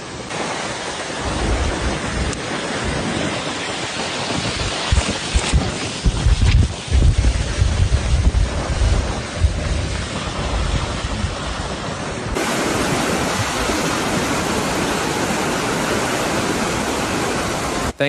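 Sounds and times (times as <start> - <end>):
floodwater rushing: 0.0 - 18.0
wind buffeting microphone: 0.0 - 18.0.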